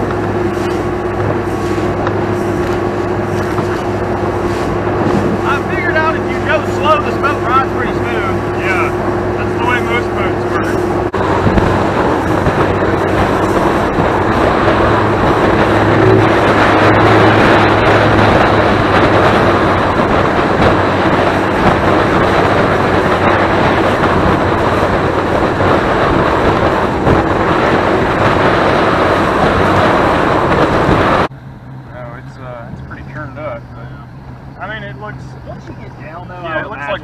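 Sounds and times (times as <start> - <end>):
motorboat engine drone: 0.0 - 37.0
rush of wind and water: 0.0 - 37.0.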